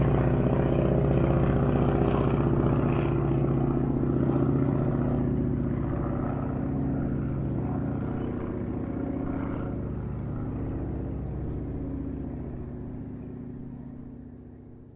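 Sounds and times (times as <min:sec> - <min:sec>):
propeller airplane engine droning: 0:00.0 - 0:14.9.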